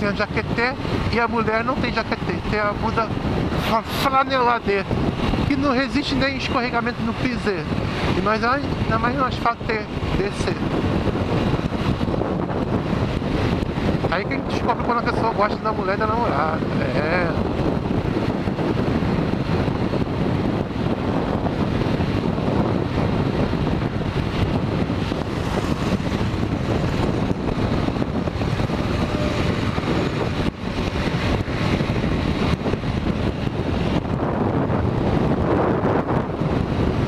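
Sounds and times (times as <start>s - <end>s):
strong wind rushing over microphone: 0.0s - 37.0s.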